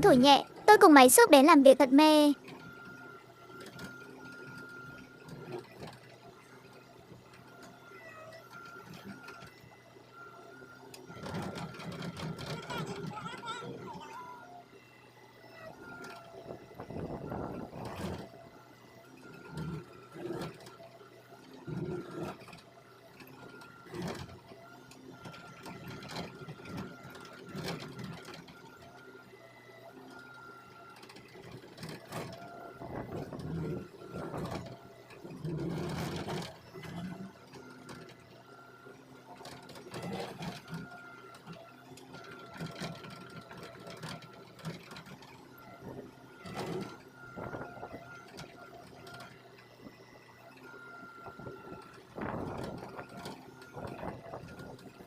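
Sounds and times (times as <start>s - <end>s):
excavator engine and hydraulics hum: 0.0s - 55.0s.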